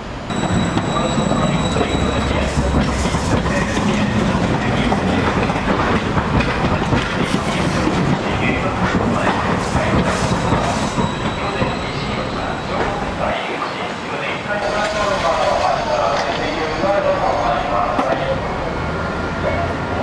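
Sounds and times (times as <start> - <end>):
tram wheels rumbling on rails: 0.0 - 20.0.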